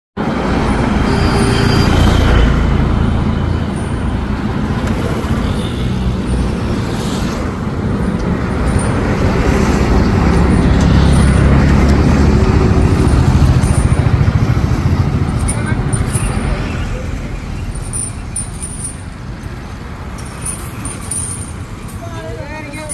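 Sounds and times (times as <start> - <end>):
heavy vehicle engine running: 0.2 - 21.9
road and traffic noise: 0.2 - 22.9.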